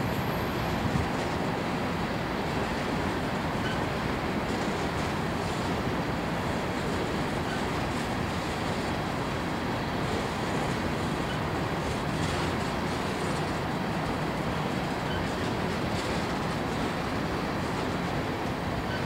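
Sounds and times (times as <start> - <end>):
train wheels rolling on rail: 0.0 - 19.0.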